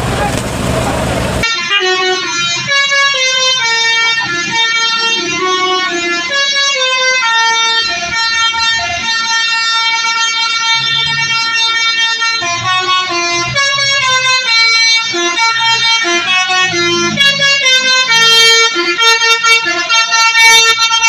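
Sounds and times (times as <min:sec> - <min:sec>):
bus musical horn playing tune: 0:01.3 - 0:21.0.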